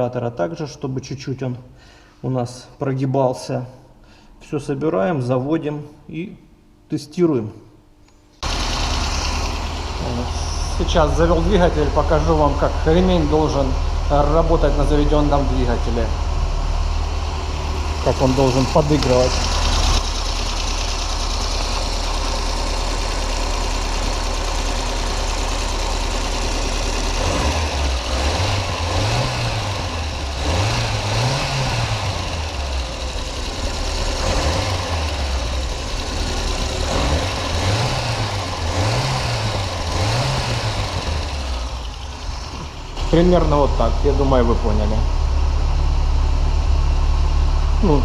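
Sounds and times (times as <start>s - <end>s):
car engine idling and revving: 8.4s - 48.0s.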